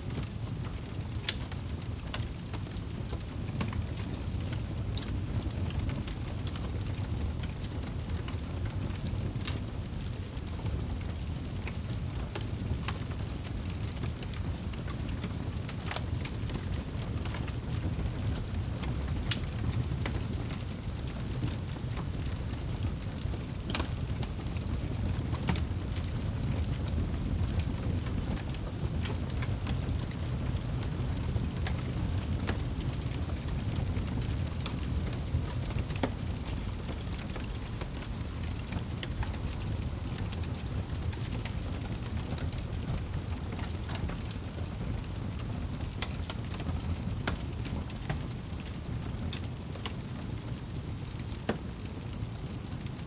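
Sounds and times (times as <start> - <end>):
flames rumbling: 0.0 - 53.0
wood fire burning: 0.0 - 53.0.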